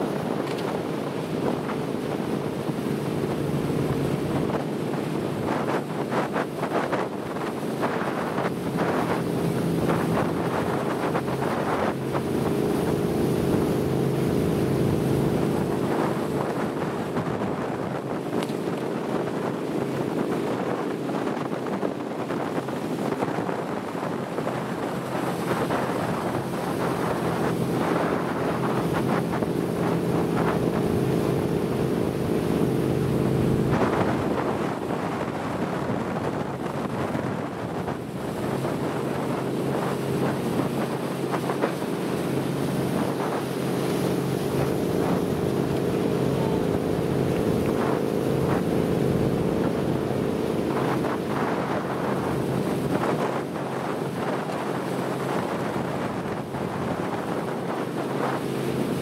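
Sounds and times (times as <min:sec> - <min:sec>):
motorboat engine droning: 0:00.0 - 0:59.0
water rushing past hull: 0:00.0 - 0:59.0
wind buffeting microphone: 0:00.0 - 0:59.0.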